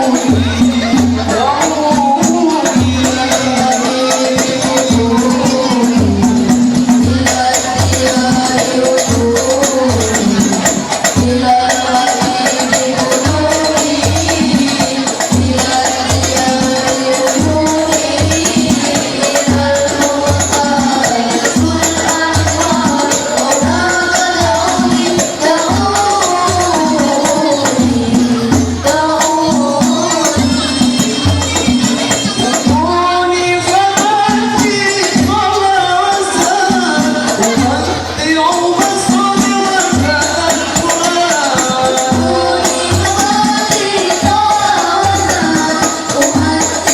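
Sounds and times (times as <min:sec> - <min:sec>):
frame drums beating: 0:00.0 - 0:46.9
voices singing together: 0:00.0 - 0:46.9.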